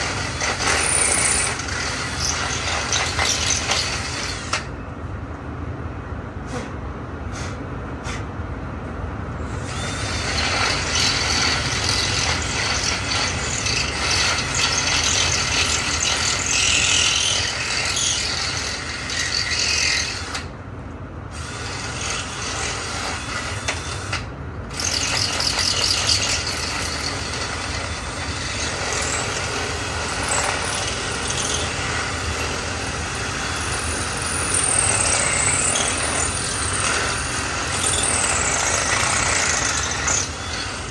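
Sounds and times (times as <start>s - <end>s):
power drill boring into wood: 0.0s - 4.6s, 9.7s - 20.5s, 21.4s - 40.9s.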